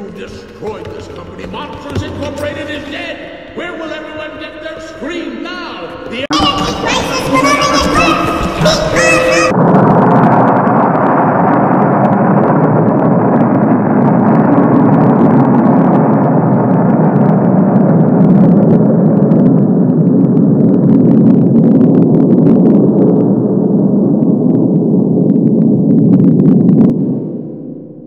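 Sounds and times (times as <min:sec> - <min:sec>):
explosion rumble: 0:00.0 - 0:28.0.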